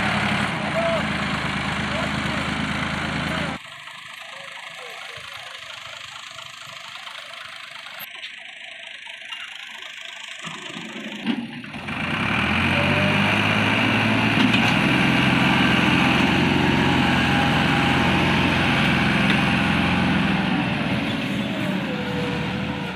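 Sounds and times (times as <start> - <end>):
tractor engine under load: 0.0 - 22.9.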